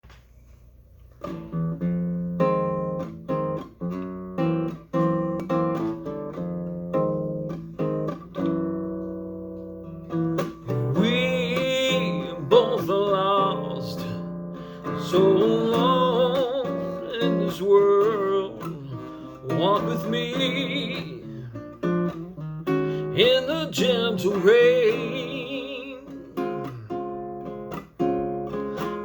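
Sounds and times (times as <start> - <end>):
acoustic guitar chords: 1.2 - 29.0.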